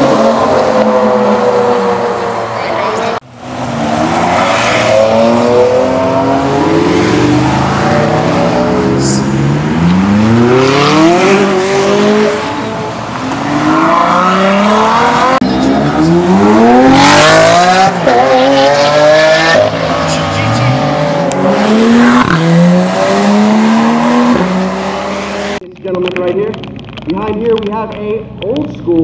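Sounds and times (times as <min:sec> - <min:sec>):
sports car engines revving: 0:00.0 - 0:27.0.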